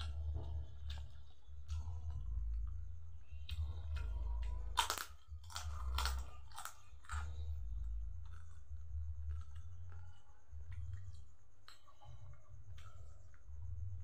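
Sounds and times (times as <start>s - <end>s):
cracker crunching: 0.0s - 13.4s
low hum: 0.0s - 14.0s
soft chewing: 0.0s - 14.0s.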